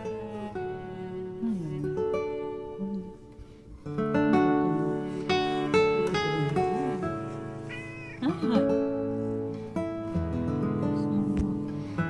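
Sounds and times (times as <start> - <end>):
gentle acoustic guitar picking: 0.0 - 12.0.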